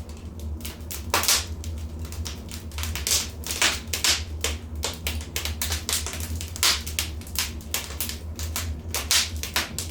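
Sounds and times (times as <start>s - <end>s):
low rumble of flames: 0.0s - 9.9s
wood fire crackling and popping: 0.0s - 9.9s.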